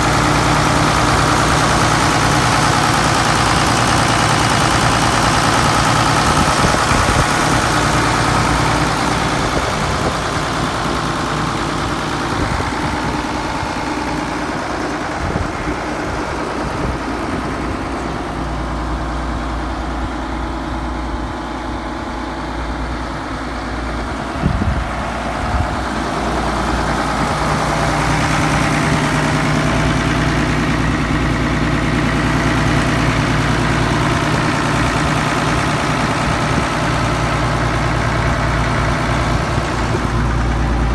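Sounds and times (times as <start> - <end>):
tractor engine idling: 0.0 - 40.9.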